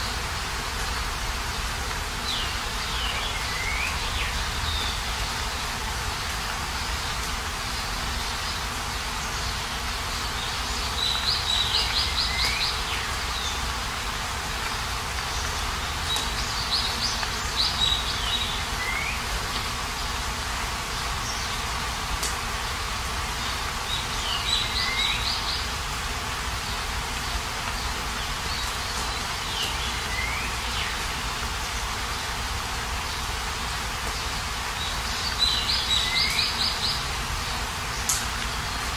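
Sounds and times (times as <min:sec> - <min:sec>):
rain falling: 0:00.0 - 0:38.9
songbird chirping: 0:01.5 - 0:20.2, 0:22.6 - 0:25.8, 0:26.6 - 0:32.4, 0:34.1 - 0:38.9.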